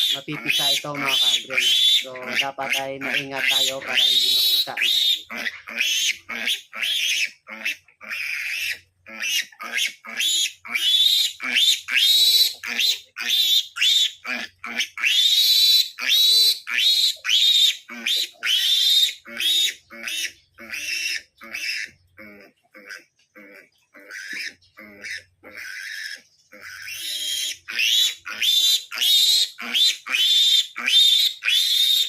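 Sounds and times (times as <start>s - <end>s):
piglet squealing: 0.0s - 32.0s.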